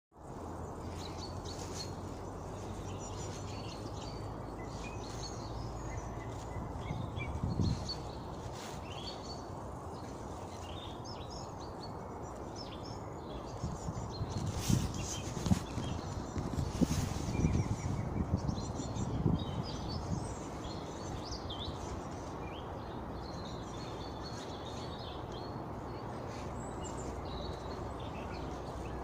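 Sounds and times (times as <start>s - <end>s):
small songbirds chirping: 0.1s - 29.0s.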